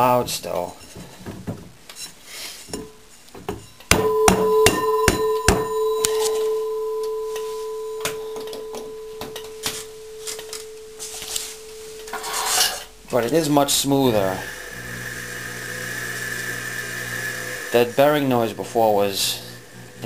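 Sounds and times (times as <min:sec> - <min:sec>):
potter's wheel whine: 0:03.9 - 0:20.0.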